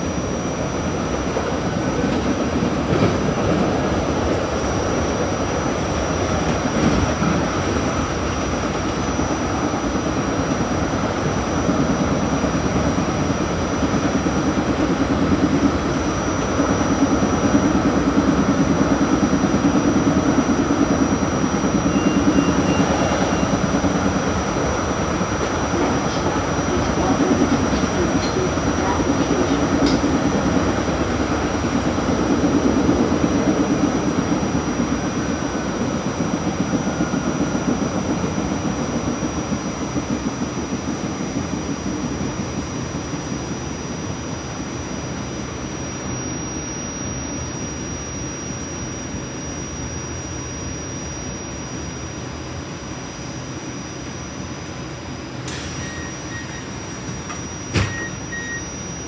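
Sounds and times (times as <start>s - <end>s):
light-rail train rumbling: 0.0s - 46.2s, 51.7s - 59.0s.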